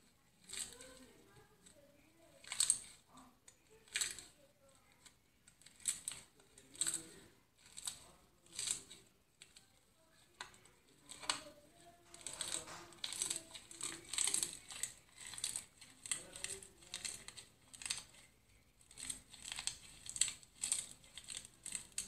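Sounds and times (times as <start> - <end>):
slime crust crackling: 0.3 - 22.0.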